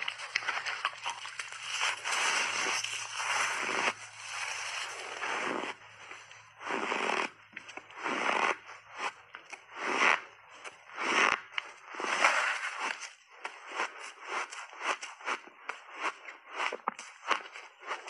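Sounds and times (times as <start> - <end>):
ice crunching between teeth: 0.0 - 18.0.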